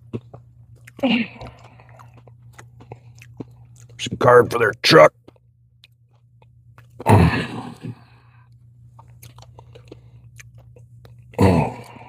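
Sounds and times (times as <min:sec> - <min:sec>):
person chewing: 0:00.0 - 0:12.0
steady low hum: 0:00.0 - 0:12.0.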